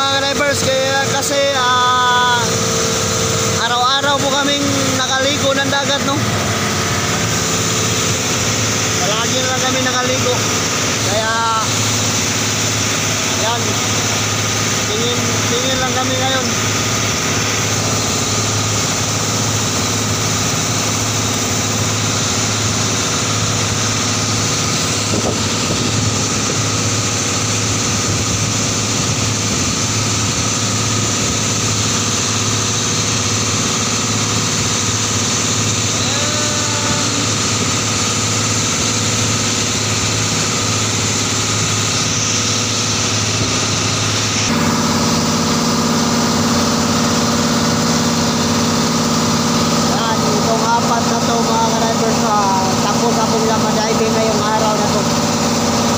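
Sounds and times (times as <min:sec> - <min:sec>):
boat engine running: 0:00.0 - 0:55.9
water rushing along hull: 0:00.0 - 0:55.9.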